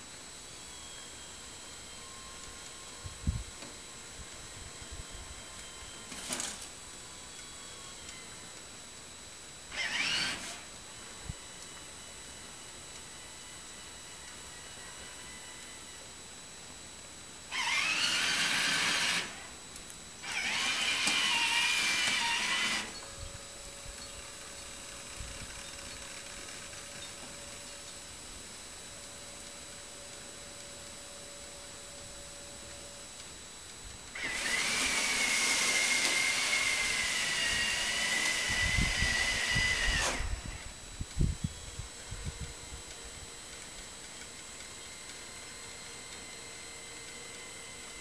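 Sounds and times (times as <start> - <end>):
electric motor whine: 0.0 - 48.0.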